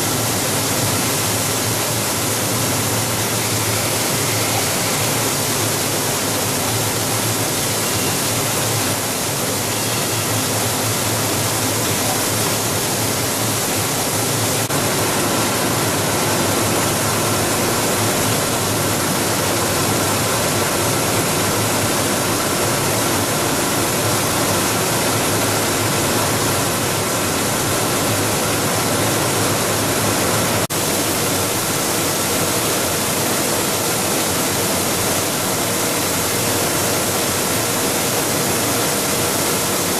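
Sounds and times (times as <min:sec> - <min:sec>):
loud steady machine noise: 0:00.0 - 0:39.9.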